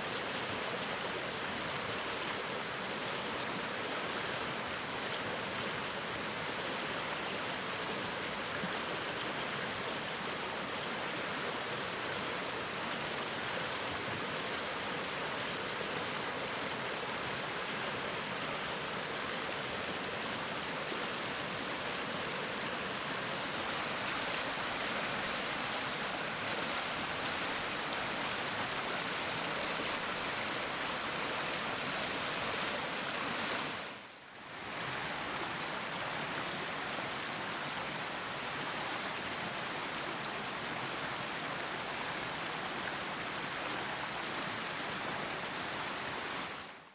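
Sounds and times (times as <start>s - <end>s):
stream flowing over stones: 0.0s - 46.8s.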